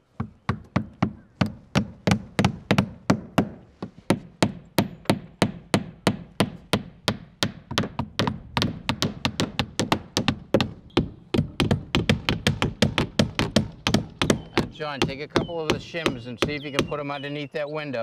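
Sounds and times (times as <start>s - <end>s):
hammers driving nails: 0.1s - 17.2s.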